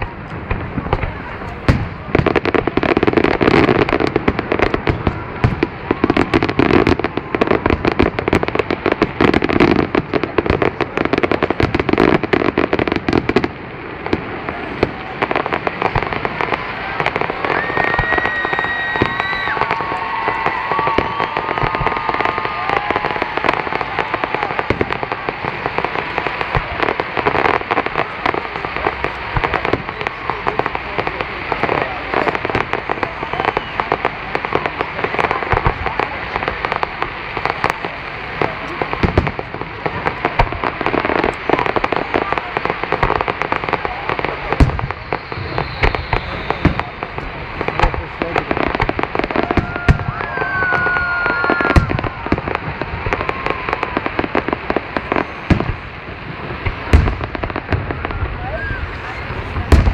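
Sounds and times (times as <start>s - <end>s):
fireworks popping and banging: 0.0s - 59.9s
fireworks whistling: 0.0s - 59.9s.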